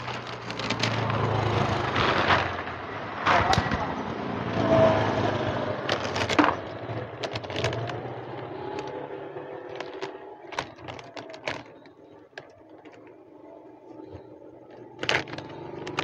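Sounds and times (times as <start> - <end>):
cat crunching dry kibble: 0.0 - 2.7, 5.3 - 16.0
motor vehicle hum: 0.0 - 16.0.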